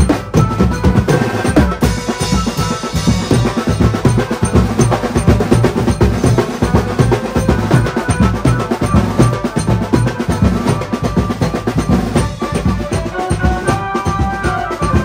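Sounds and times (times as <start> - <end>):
fast steady drumming: 0.0 - 15.0
melody with held notes: 0.0 - 15.0.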